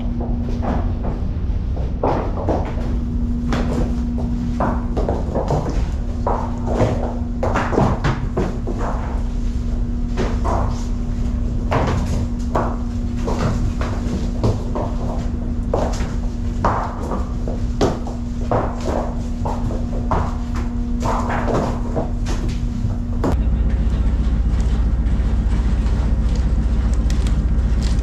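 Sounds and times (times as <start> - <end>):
steady machinery hum: 0.0 - 28.0.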